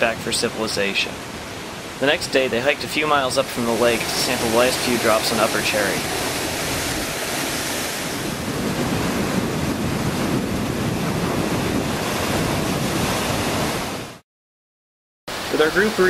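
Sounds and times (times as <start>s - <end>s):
whitewater rushing: 0.0s - 14.2s, 15.3s - 16.0s.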